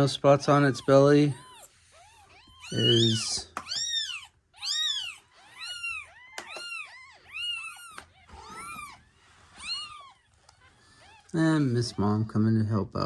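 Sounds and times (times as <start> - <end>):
kitten mewing: 0.0 - 12.0.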